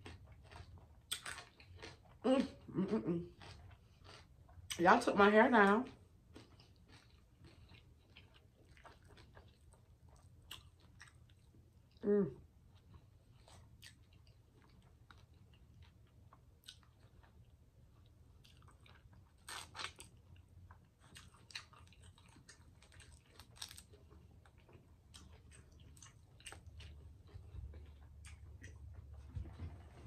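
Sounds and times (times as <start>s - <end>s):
person chewing: 0.0s - 4.8s, 6.0s - 12.0s, 12.7s - 29.2s.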